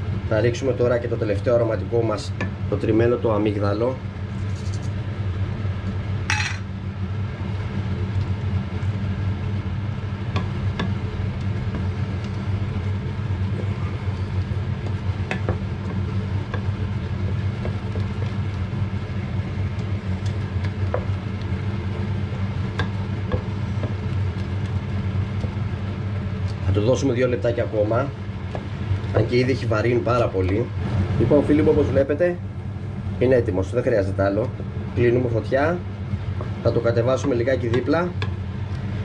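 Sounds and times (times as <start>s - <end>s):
low hum: 1.0s - 39.0s.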